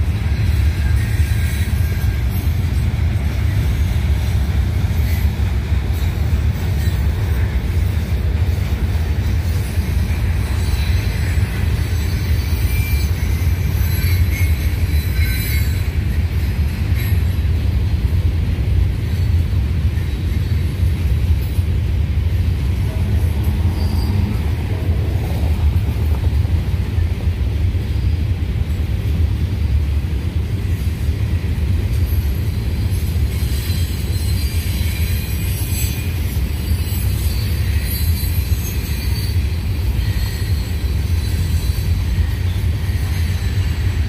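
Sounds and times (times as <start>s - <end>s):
high wheel squeals: 0.0s - 17.8s, 18.9s - 28.3s, 31.9s - 44.0s
train wheels rumbling on rails: 0.0s - 44.0s.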